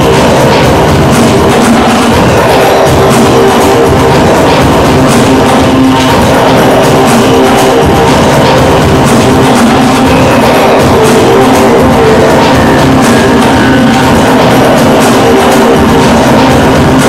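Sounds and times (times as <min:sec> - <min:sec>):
experimental noise music: 0:00.0 - 0:17.0
sustained droning tones: 0:00.0 - 0:17.0.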